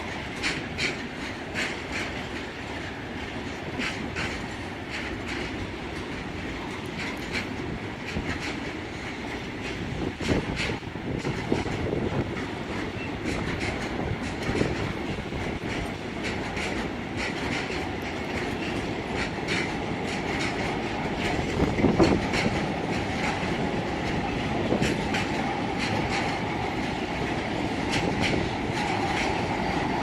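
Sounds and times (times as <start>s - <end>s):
freight train rumbling past: 0.0s - 30.0s
wheels clacking over rail joints: 0.0s - 30.0s.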